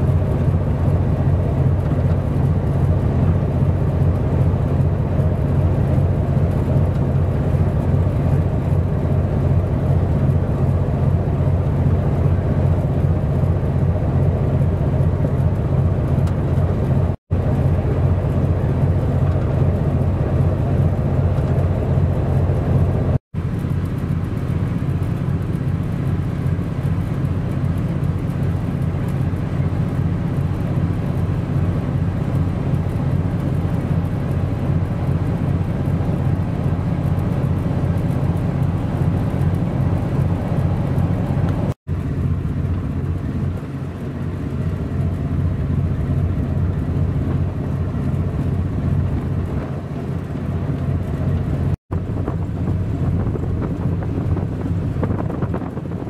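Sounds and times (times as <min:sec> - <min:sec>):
ship engine drone: 0:00.0 - 0:56.0.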